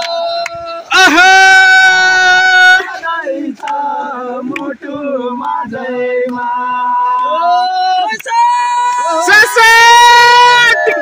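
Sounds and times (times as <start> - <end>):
voices chanting: 0.0 - 11.0.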